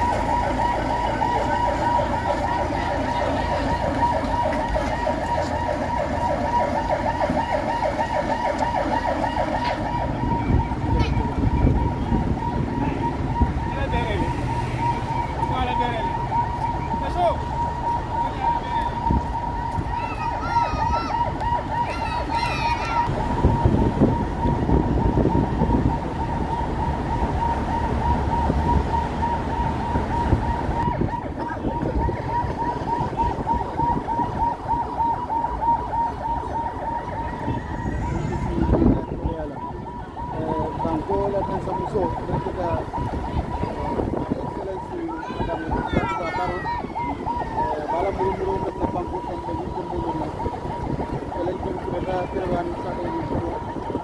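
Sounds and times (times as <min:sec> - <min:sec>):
low rumble of vehicles: 0:00.0 - 0:54.0
siren yelping: 0:00.0 - 0:54.0.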